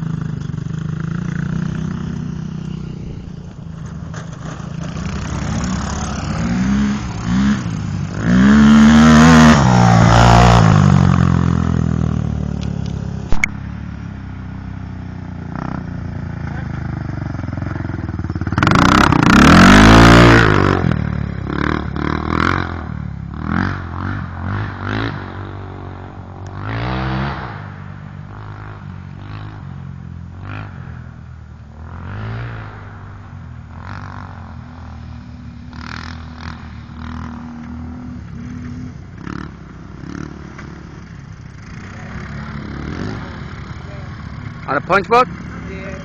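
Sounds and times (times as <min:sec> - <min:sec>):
off-road engines revving: 0:00.0 - 0:13.5, 0:14.4 - 0:29.8, 0:31.8 - 0:46.0
quad engine revving past: 0:01.0 - 0:12.5, 0:15.5 - 0:29.6, 0:31.8 - 0:46.0.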